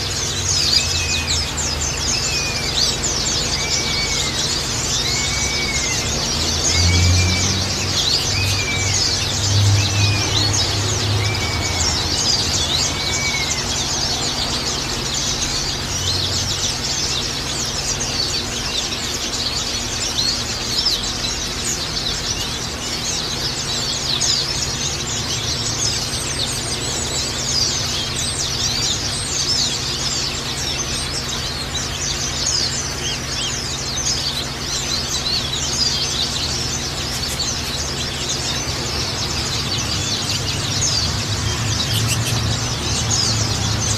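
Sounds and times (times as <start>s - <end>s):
birds chirping and twittering: 0.0s - 43.9s.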